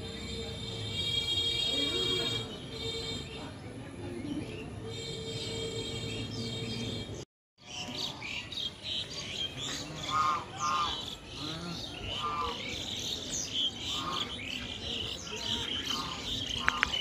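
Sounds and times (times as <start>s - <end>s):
small birds chirping: 1.8s - 17.0s.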